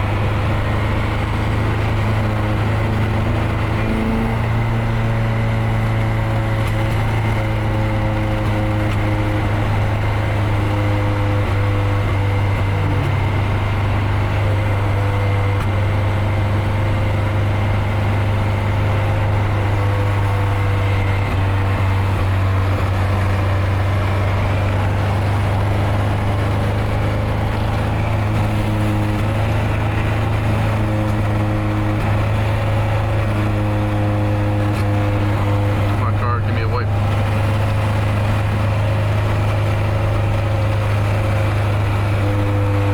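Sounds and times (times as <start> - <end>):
car engine and exhaust droning: 0.0 - 42.9
road noise: 0.0 - 42.9.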